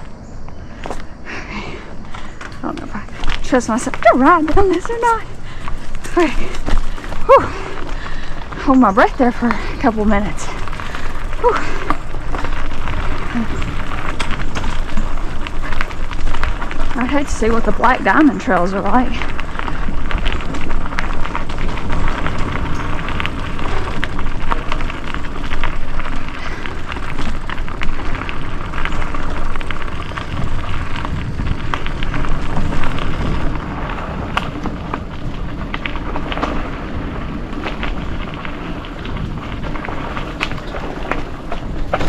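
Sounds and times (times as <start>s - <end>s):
bike rattling and knocking: 0.0s - 42.0s
tyres crunching over dirt: 0.0s - 42.0s
wind rumbling on microphone: 0.0s - 42.0s.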